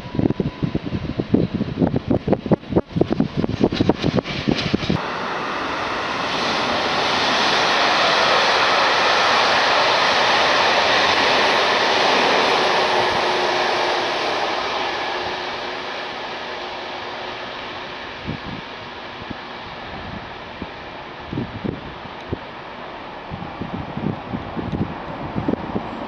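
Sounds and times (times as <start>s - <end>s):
train passing: 0.0s - 26.0s.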